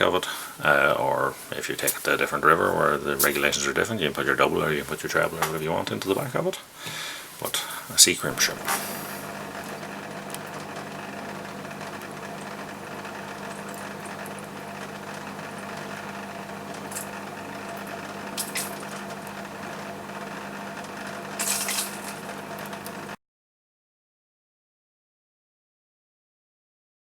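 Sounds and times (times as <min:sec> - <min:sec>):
room tone hum and hiss: 0:00.0 - 0:23.2.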